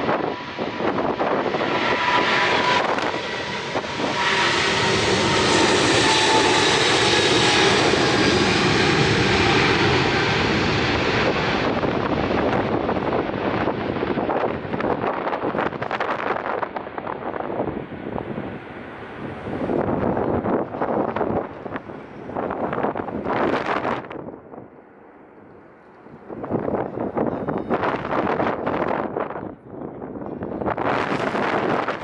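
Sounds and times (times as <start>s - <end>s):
airliner engines roaring past: 0.0s - 32.0s.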